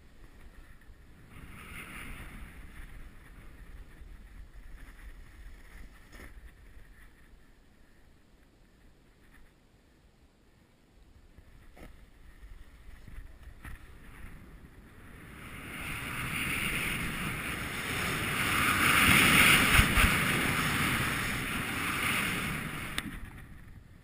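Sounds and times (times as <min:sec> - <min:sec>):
board scraping over snow: 0:00.0 - 0:08.0, 0:11.4 - 0:24.0
wind rushing on microphone: 0:00.0 - 0:09.6, 0:11.3 - 0:24.0.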